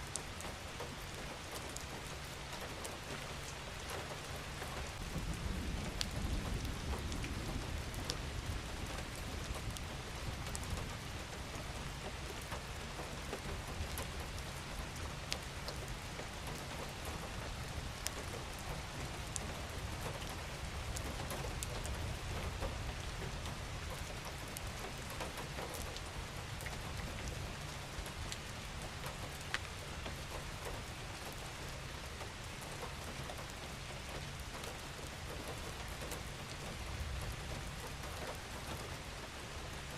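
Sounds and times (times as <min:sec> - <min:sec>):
rain hissing on a surface: 0:00.0 - 0:39.9
raindrops ticking: 0:00.1 - 0:39.9.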